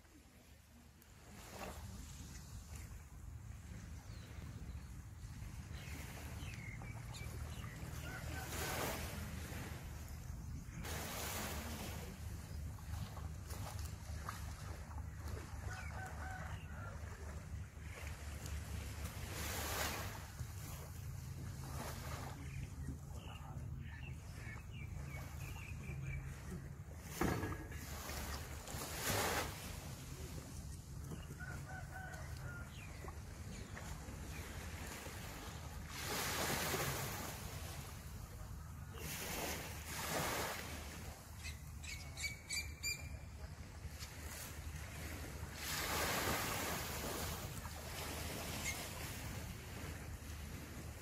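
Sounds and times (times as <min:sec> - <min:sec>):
small waves washing onto sand: 0:00.0 - 0:42.6, 0:43.3 - 0:51.0.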